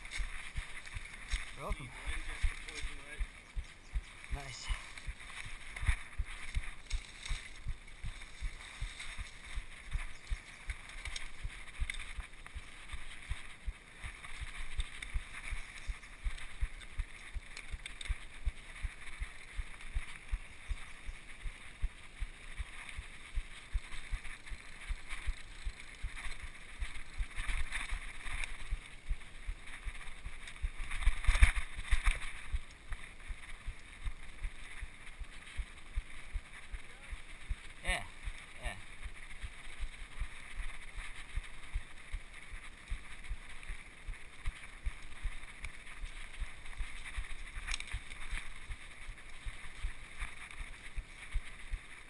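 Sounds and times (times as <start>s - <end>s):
bike rattling over bumps: 0.0s - 52.0s.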